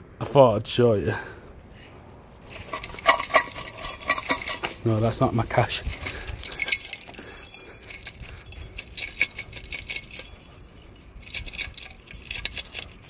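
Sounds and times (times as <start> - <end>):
loose debris rattling inside: 2.4 - 13.0
metal exhaust pipe clinking: 2.4 - 13.0.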